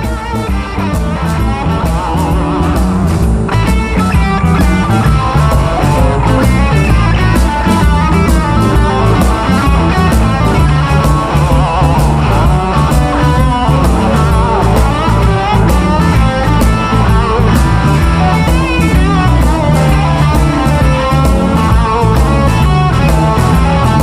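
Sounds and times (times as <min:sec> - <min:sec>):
bass guitar: 0:00.0 - 0:24.0
electric guitar bent notes: 0:00.0 - 0:24.0
steady drum beat: 0:00.0 - 0:24.0.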